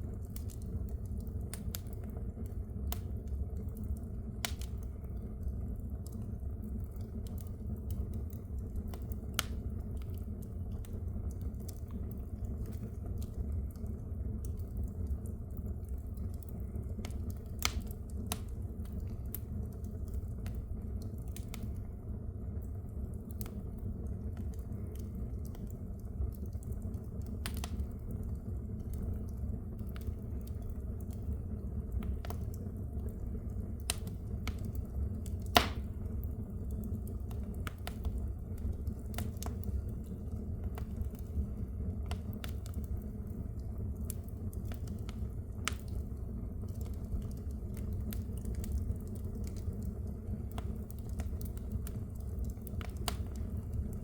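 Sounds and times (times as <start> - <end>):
fire flames rumbling: 0.0 - 54.0
wood fire crackling and popping: 0.0 - 54.0.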